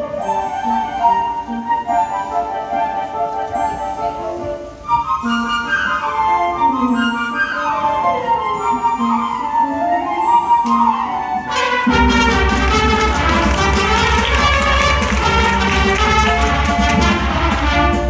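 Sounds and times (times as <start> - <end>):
wind band playing: 0.0 - 18.0.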